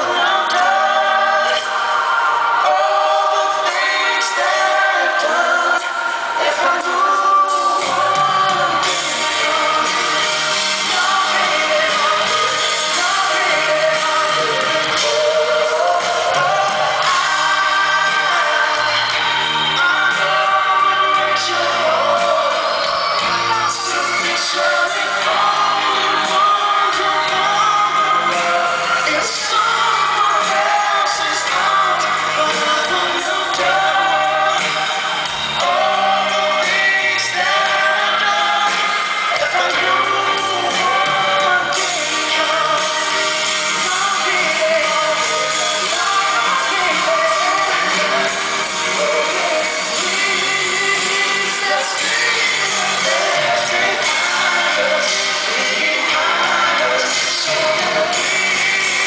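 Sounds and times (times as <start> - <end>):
backing vocal harmonies: 0.0 - 59.0
live band music: 0.0 - 59.0
man singing lead vocals: 0.0 - 59.0.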